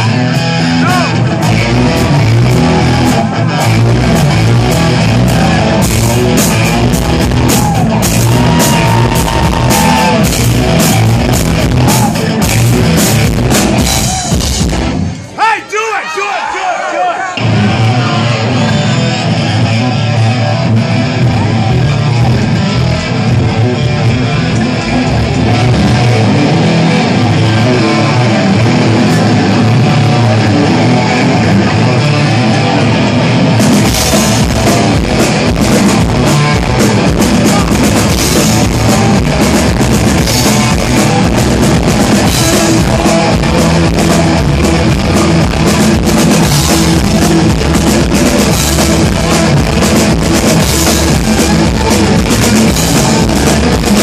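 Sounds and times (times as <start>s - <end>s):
electric guitar: 0.0s - 15.3s, 17.4s - 54.0s
rock band playing live: 0.0s - 15.4s, 17.4s - 54.0s
drums: 0.0s - 16.0s, 17.3s - 54.0s.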